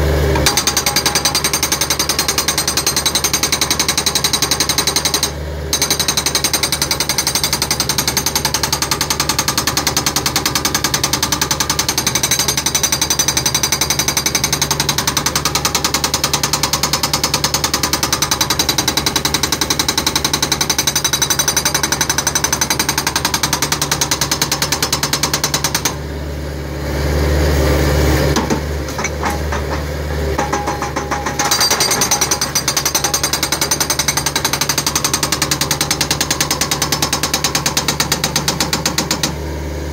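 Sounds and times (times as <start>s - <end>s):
hydraulic breaker hammering concrete: 0.2s - 26.0s, 28.3s - 39.5s.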